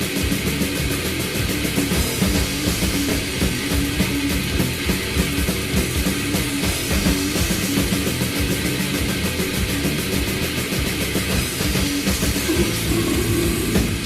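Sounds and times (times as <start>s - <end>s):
distorted guitars and bass: 0.0s - 14.0s
fast dense drumming: 0.0s - 14.0s.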